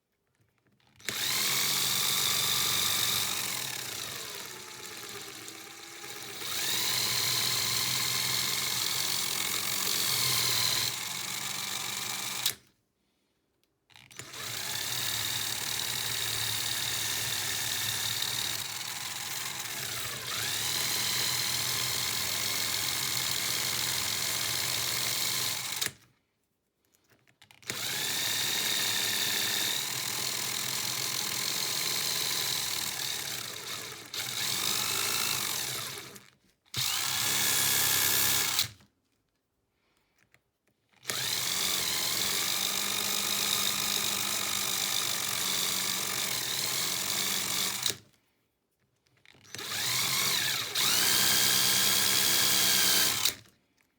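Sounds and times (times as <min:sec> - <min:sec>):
small power tool whining: 0:01.0 - 0:12.6, 0:14.0 - 0:26.0, 0:27.6 - 0:38.8, 0:41.0 - 0:48.2, 0:49.4 - 0:53.5.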